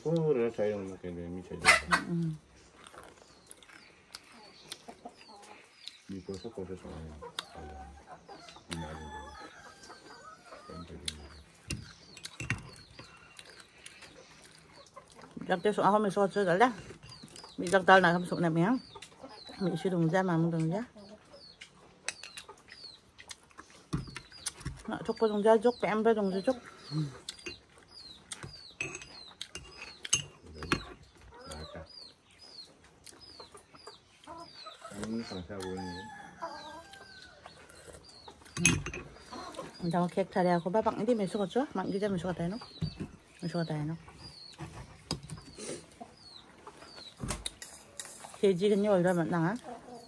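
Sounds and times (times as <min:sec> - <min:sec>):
chickens clucking: 0:00.0 - 0:50.0
small birds chirping: 0:00.0 - 0:50.0.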